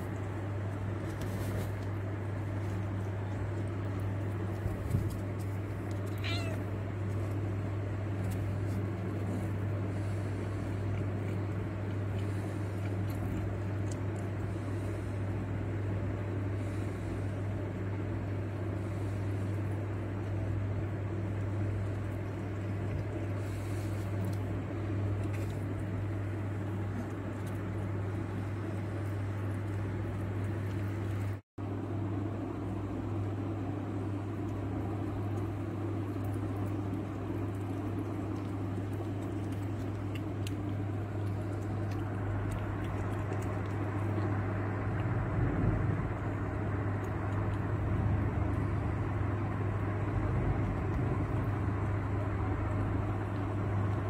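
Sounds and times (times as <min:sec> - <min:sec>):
cat chewing raw meat: 0:00.0 - 0:31.4, 0:32.4 - 0:54.0
low hum: 0:00.0 - 0:54.0.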